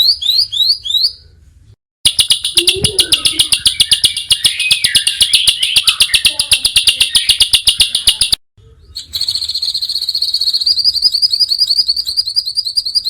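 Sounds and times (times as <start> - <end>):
songbird chirping rapidly: 2.1 - 13.0.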